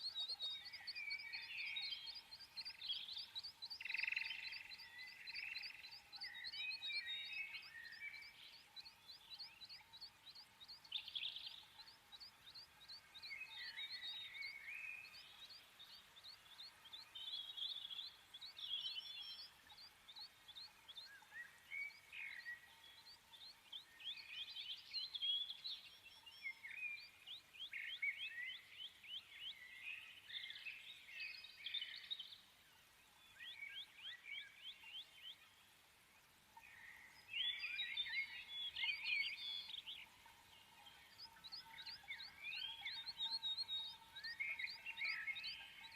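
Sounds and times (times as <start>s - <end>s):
birds chirping and singing: 0.0s - 45.9s.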